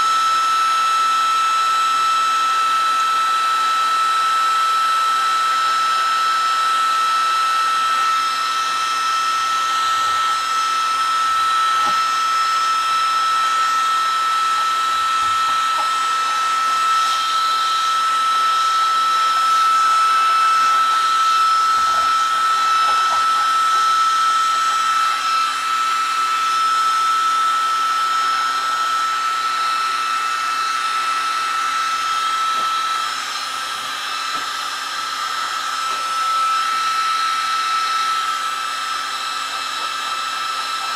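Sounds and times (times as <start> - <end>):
heat gun fan whine: 0.0 - 40.9.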